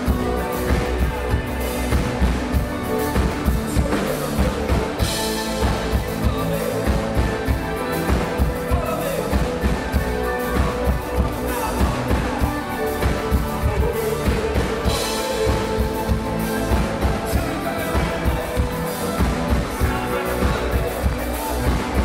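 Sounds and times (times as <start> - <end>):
drum kit beat: 0.0 - 22.0
electric guitar: 0.0 - 22.0
keyboards: 0.0 - 22.0.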